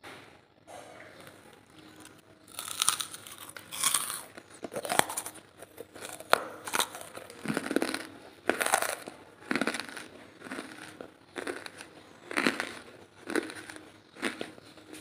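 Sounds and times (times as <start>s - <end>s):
charcoal chewed with crunches: 1.2s - 15.0s.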